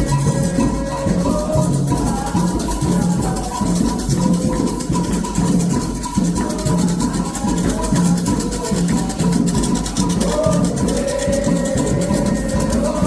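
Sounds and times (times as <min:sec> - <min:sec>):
shaker rattling: 0:00.0 - 0:13.0.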